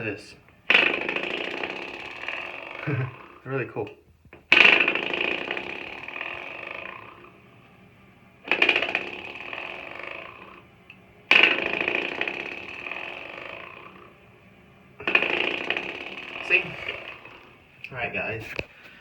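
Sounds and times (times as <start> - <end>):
door stopper spring buzzing rattle: 0.0 - 18.4.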